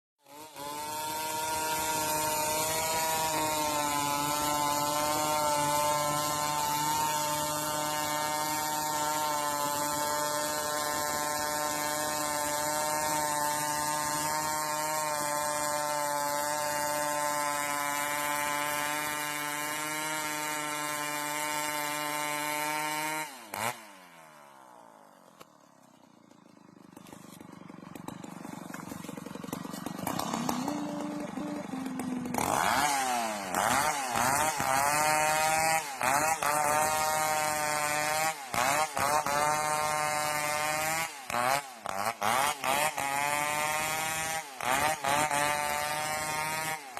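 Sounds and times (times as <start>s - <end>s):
chainsaw running at high speed: 0.2s - 46.9s.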